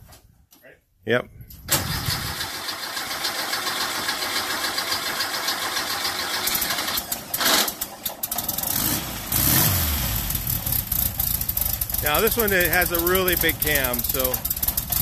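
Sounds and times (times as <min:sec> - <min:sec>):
car engine idling unevenly: 0:02.6 - 0:15.0.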